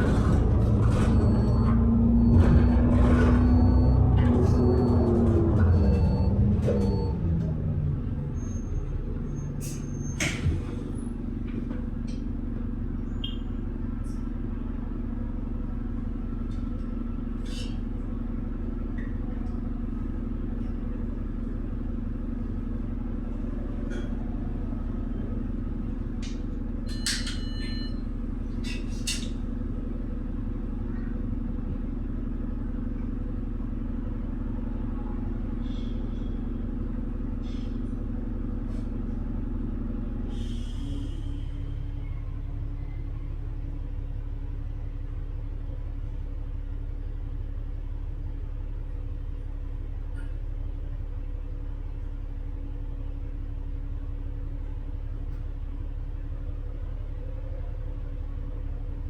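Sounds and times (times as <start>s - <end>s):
bus engine hum: 0.0s - 59.0s.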